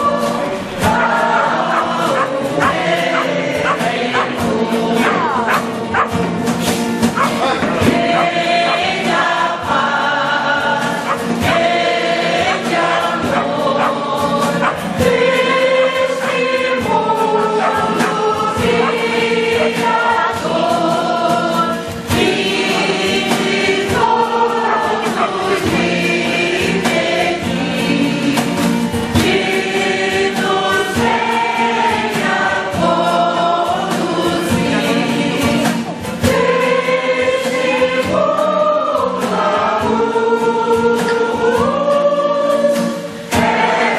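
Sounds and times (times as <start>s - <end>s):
choir singing: 0.0s - 43.9s.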